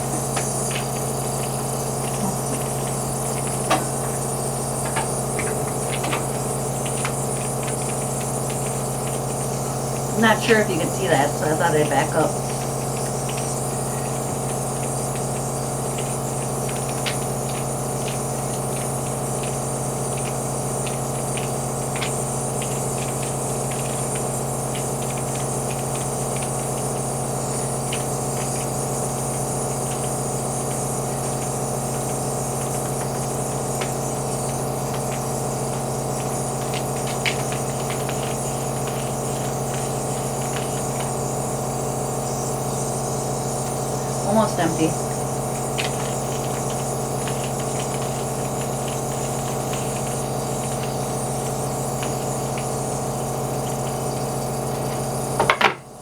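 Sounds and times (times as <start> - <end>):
air hissing through nebulizer: 0.0 - 23.0, 23.7 - 55.4
air compressor humming: 0.0 - 56.0.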